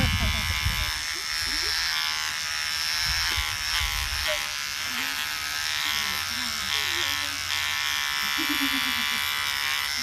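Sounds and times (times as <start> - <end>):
electric beard trimmer buzzing: 0.0 - 10.0.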